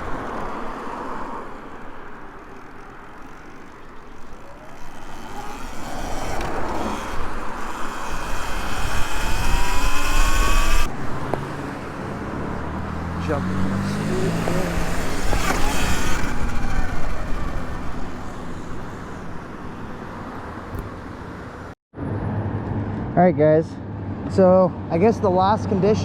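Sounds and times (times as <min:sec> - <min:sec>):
tyre noise: 0:00.0 - 0:21.7
electric motor whine: 0:00.0 - 0:21.8.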